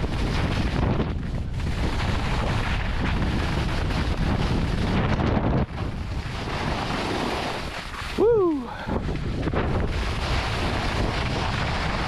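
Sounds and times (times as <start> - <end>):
skis sliding on snow: 0.0 - 8.3, 9.0 - 12.0
wind rushing over microphone: 0.0 - 12.0.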